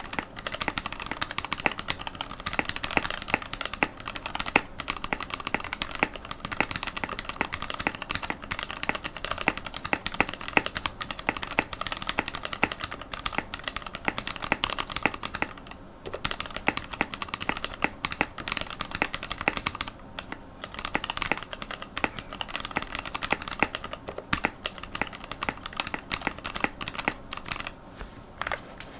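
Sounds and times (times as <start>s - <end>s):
fast mechanical keyboard typing: 0.0s - 27.7s.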